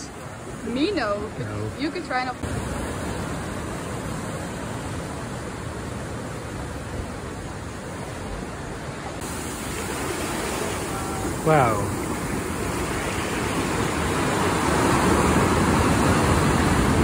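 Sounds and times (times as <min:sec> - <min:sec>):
sea surf: 0:00.0 - 0:17.0
wind: 0:00.0 - 0:17.0.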